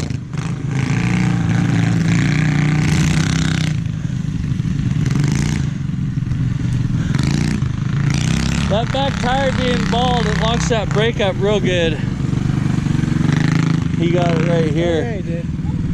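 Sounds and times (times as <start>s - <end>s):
mini bike engine running hard: 0.0s - 15.9s.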